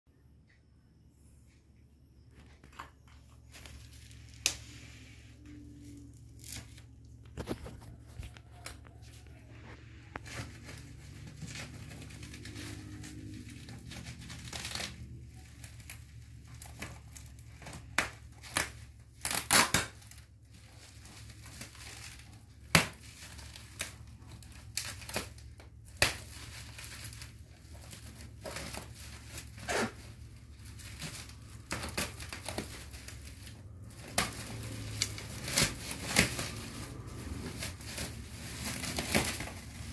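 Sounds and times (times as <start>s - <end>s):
bubble wrap crinkling: 2.3s - 39.9s.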